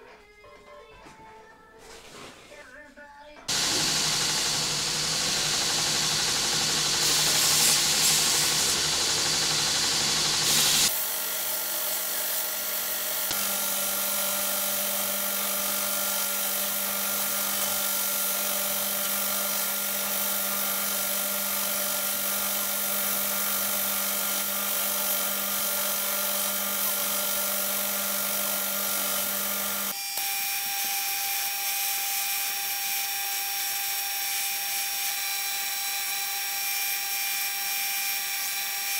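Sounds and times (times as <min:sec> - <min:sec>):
belt grinder motor whine: 0:03.5 - 0:38.9.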